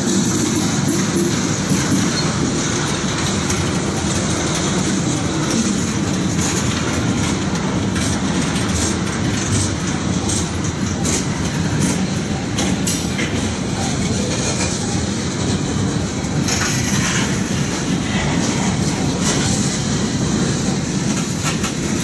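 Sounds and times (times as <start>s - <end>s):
freight train wheels rumbling: 0.0s - 22.0s
wheels clicking over rail joints: 0.0s - 22.0s.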